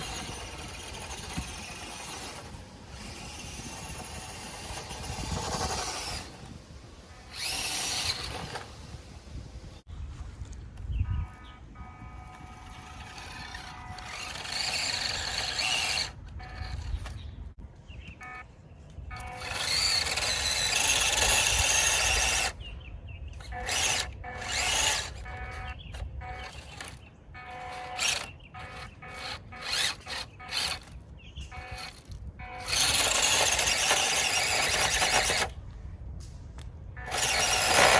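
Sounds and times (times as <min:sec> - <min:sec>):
small electric motor whining: 0:00.0 - 0:09.2, 0:11.1 - 0:17.4, 0:19.1 - 0:22.6, 0:23.4 - 0:35.6, 0:37.0 - 0:37.9.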